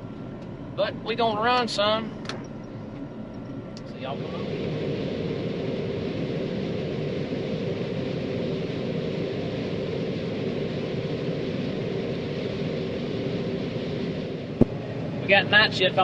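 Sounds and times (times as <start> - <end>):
combine harvester engine drone: 0.0 - 16.0.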